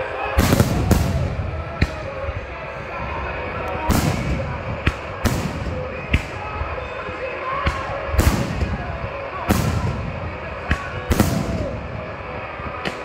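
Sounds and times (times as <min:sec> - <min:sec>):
fireworks bangs: 0:00.2 - 0:02.4, 0:03.8 - 0:06.8, 0:07.6 - 0:13.0.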